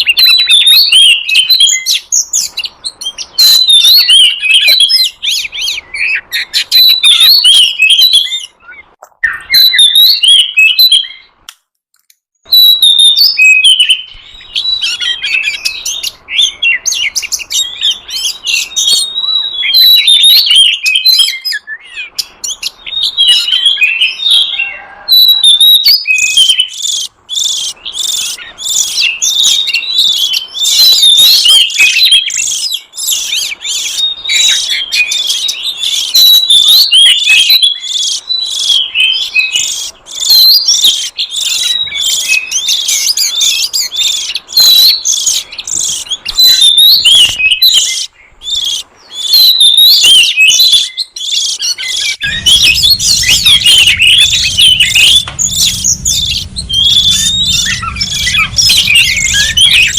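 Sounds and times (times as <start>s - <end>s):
bird singing: 0.0s - 11.5s, 12.1s - 59.9s.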